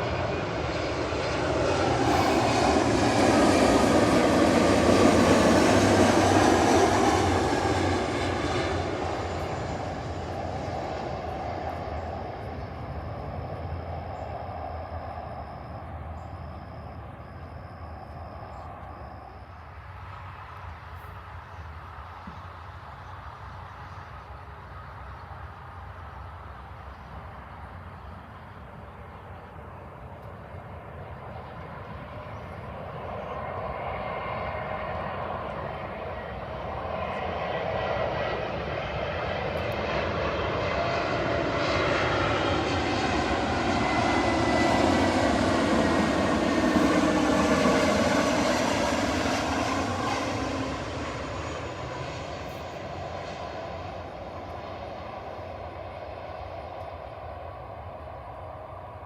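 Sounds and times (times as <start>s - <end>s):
jet airliner passing: 0.0s - 59.0s.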